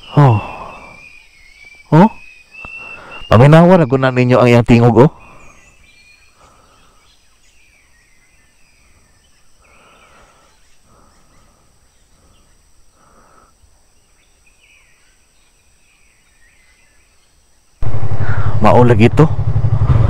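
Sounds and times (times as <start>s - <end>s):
forest birdsong: 0.0s - 19.3s.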